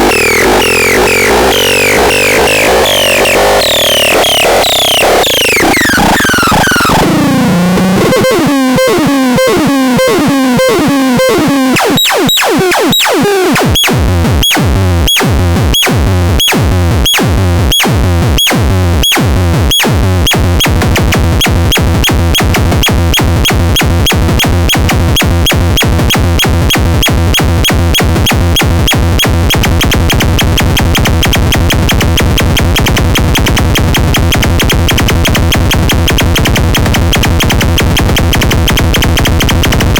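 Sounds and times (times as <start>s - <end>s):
clicky synth beats: 0.0s - 39.9s
synthesizer pulses with pitch sweeps: 0.0s - 39.9s.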